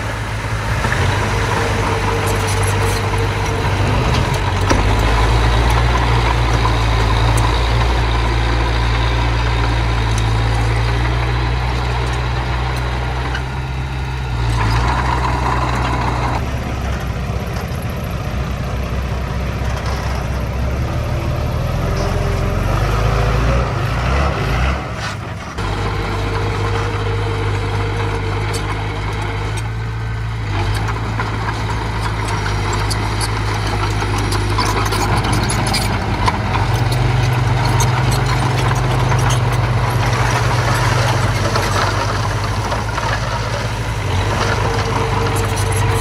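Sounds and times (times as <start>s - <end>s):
diesel engine of small machinery: 0.0s - 46.0s.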